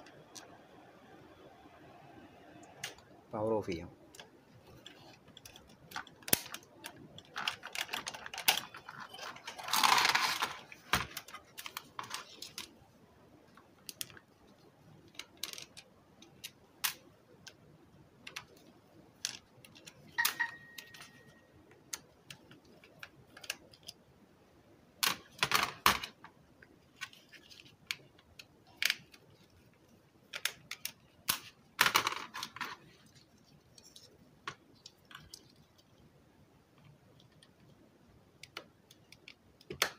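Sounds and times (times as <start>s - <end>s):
plastic parts and screws clicking: 4.1s - 12.8s, 13.5s - 17.6s, 18.2s - 24.0s, 25.0s - 39.9s.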